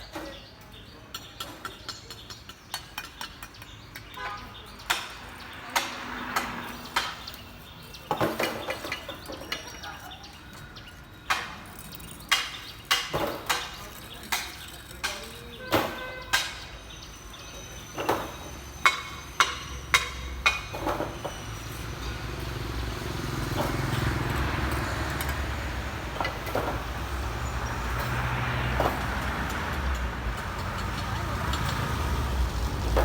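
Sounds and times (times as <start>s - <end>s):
sharp knocks and clinks: 1.1s - 33.0s
engine rumble: 5.2s - 33.0s.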